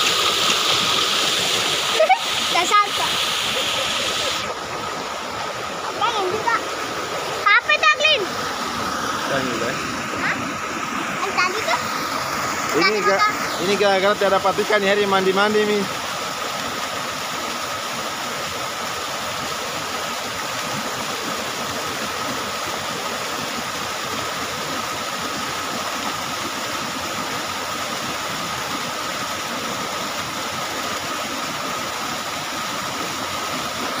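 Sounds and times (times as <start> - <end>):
river water rushing over weir: 0.0 - 34.0.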